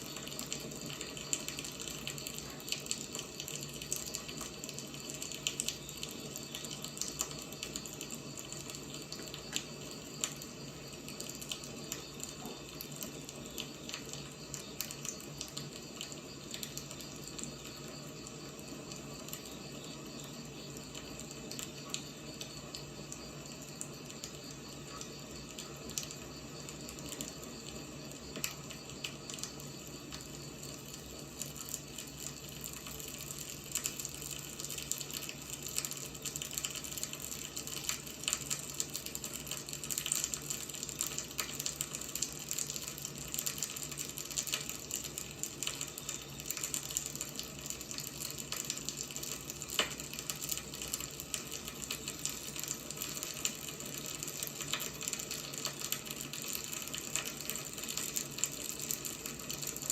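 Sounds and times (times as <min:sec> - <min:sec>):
firewood burning and crackling: 0:00.0 - 0:59.9.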